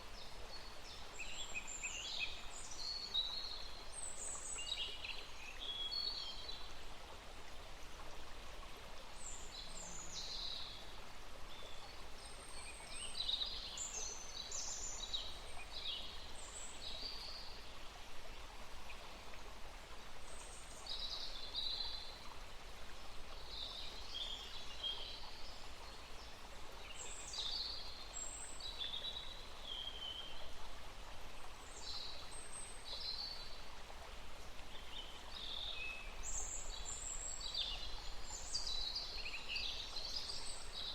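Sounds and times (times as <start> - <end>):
steady background hiss: 0.0 - 40.9.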